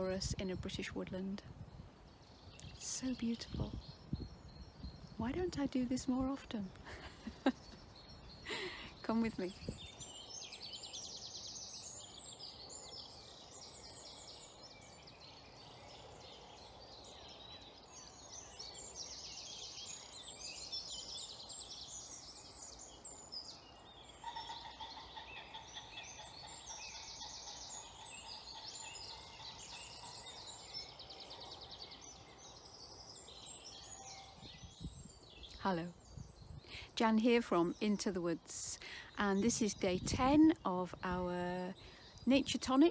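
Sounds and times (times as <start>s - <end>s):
distant songbirds singing: 0.0s - 42.9s.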